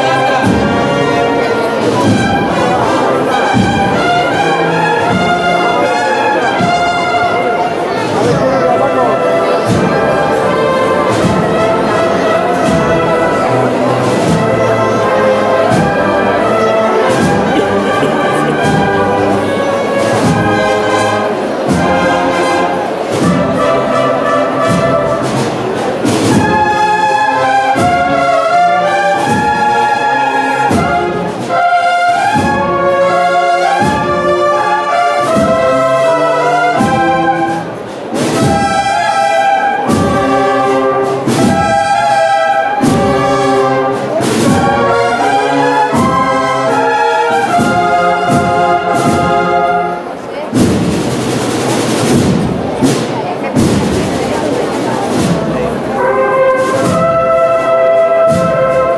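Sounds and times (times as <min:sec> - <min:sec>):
brass melody: 0:00.0 - 0:52.9, 0:54.4 - 0:58.9
steady drumbeat: 0:00.0 - 0:58.9.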